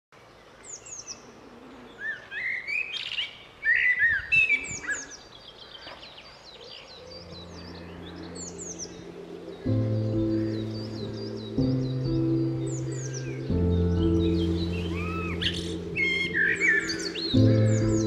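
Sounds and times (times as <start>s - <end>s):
birds chirping: 0.2s - 18.0s
louder lower bird calls: 0.8s - 18.0s.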